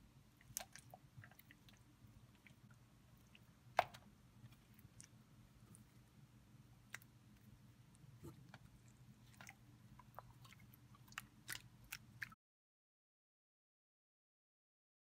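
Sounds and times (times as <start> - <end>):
low steady hum: 0.0 - 12.4
slime squishing: 0.3 - 12.4.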